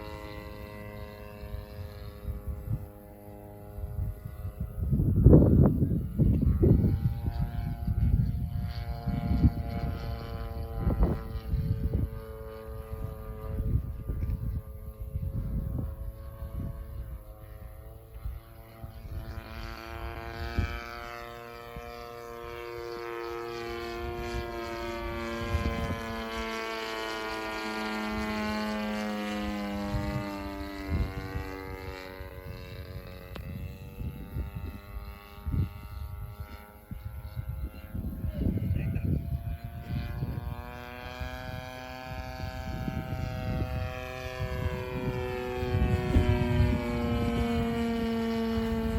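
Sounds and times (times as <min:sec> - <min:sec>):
model plane engine and propeller: 0:00.0 - 0:48.9.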